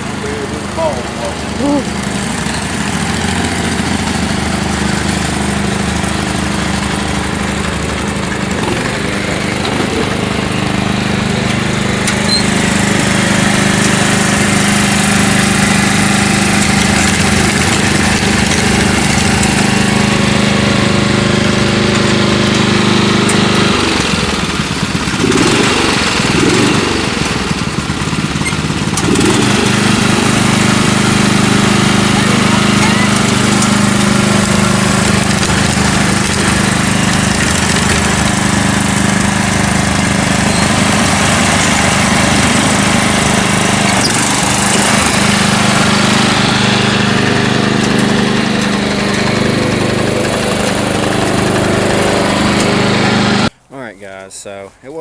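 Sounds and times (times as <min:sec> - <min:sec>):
engine idling: 0:00.0 - 0:53.7.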